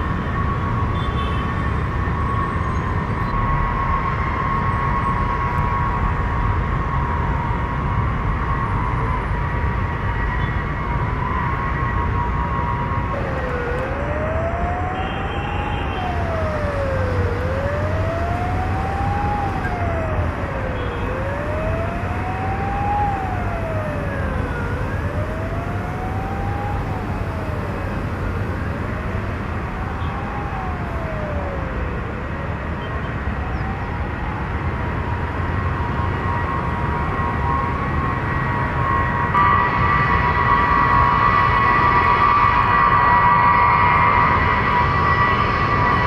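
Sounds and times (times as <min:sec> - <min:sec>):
siren wailing: 0:00.0 - 0:46.0.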